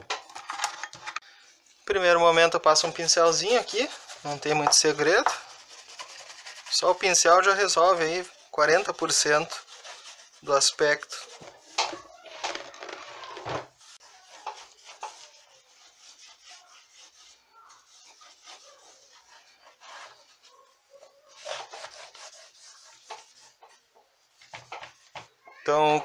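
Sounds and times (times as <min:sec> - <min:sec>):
scrubbing on amplifier covering: 0:02.8 - 0:23.7.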